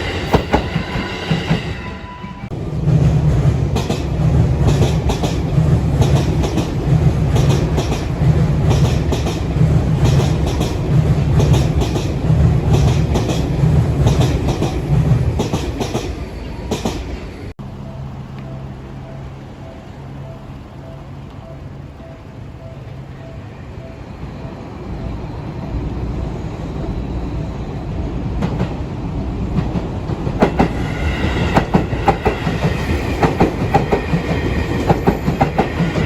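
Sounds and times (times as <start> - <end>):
electric train rumbling past: 0.0 - 36.0.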